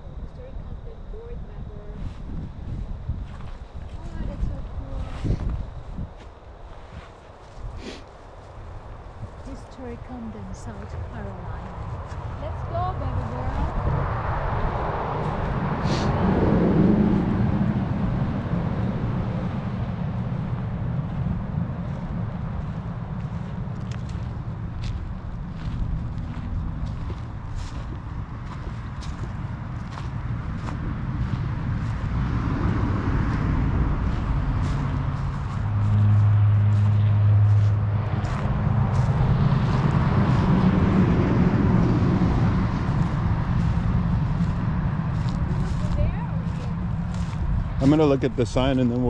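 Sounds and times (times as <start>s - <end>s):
steady low rumble: 0.0s - 49.0s
vehicle passing by: 9.4s - 49.0s.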